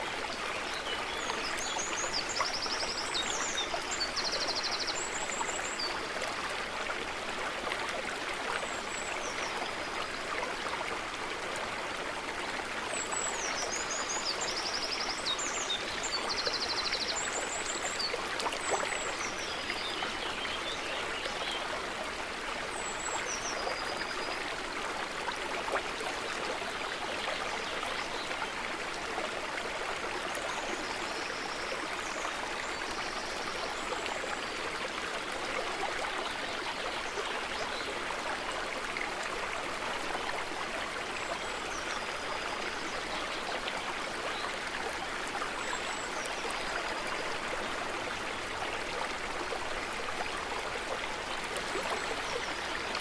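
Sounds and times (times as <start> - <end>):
stream running: 0.0 - 53.0.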